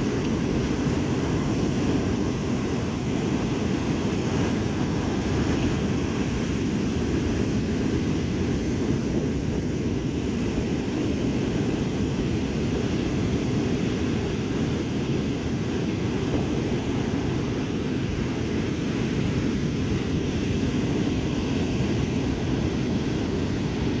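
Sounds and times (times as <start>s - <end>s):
stormy sea surf: 0.0s - 24.0s
wind: 0.0s - 24.0s.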